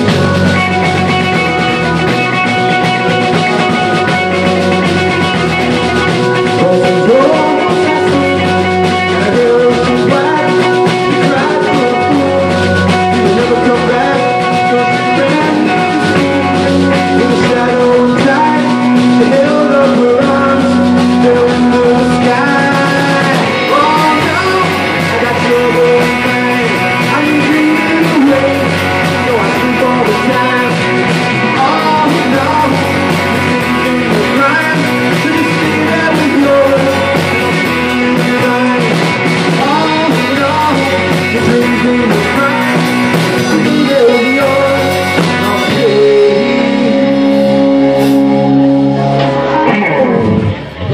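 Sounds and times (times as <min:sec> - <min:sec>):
bass guitar: 0:00.0 - 0:50.9
drum kit: 0:00.0 - 0:50.9
electric guitar: 0:00.0 - 0:50.9
keyboard: 0:00.0 - 0:50.9
man singing: 0:00.0 - 0:50.9.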